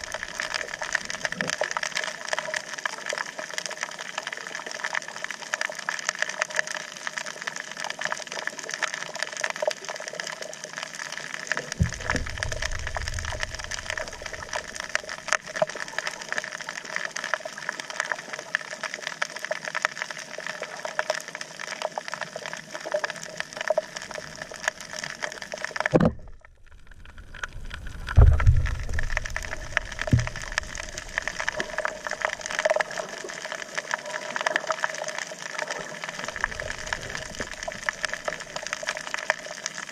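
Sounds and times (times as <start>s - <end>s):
dense crackle of fine clicks: 0.0s - 39.9s
low rumbles of moving water: 0.0s - 39.9s.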